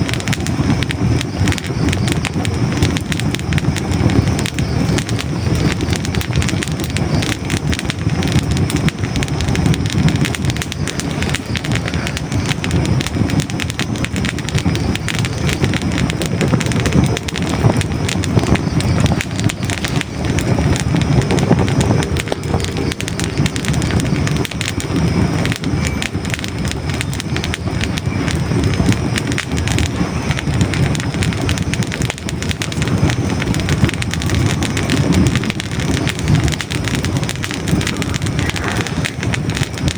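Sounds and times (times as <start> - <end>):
logs crackling and popping: 0.0 - 39.9
low rush of flame: 0.0 - 39.9.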